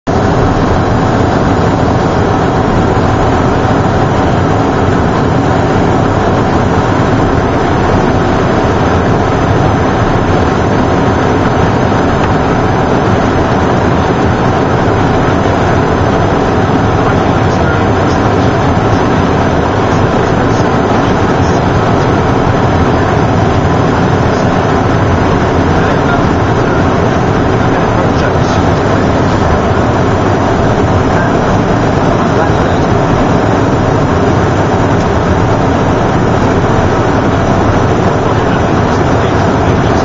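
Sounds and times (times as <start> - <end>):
turbofan engines humming: 0.0 - 40.0
airflow rushing in jet cabin: 0.1 - 40.0
steady tone: 0.1 - 40.0.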